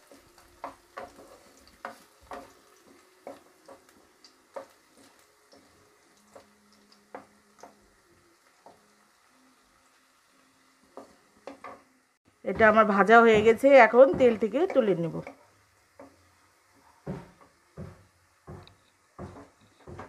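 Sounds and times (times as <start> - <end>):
spatula tapping and scraping pan: 0.0 - 8.0, 10.9 - 11.9, 12.5 - 20.0
faint sizzling in oil: 0.0 - 20.0.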